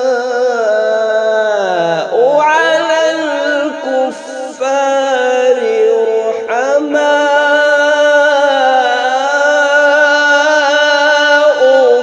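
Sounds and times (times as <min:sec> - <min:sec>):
man chanting a long note: 0:00.0 - 0:12.0.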